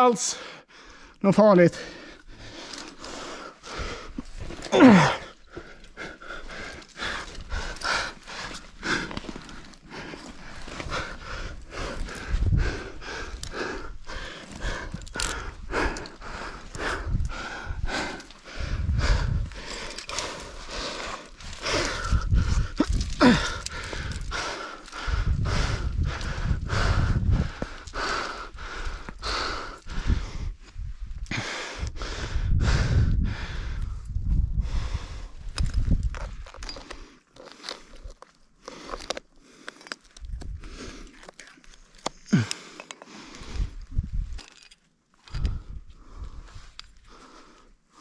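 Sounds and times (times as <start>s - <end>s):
person breathing hard: 0.3s - 44.5s, 45.2s - 48.0s.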